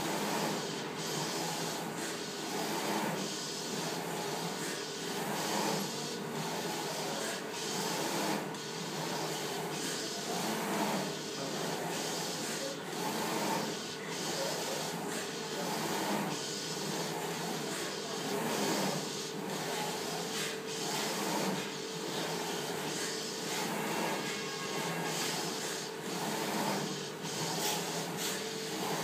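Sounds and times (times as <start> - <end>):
printer carriage whirring: 0.0 - 29.0.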